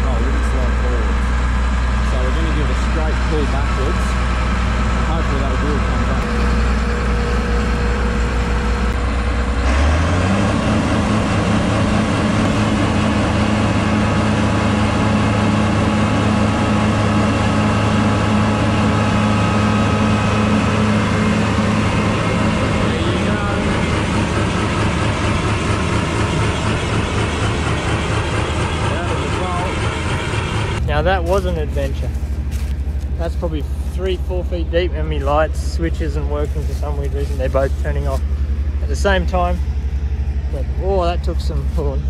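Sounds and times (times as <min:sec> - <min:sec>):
diesel engine revving: 0:00.0 - 0:42.0.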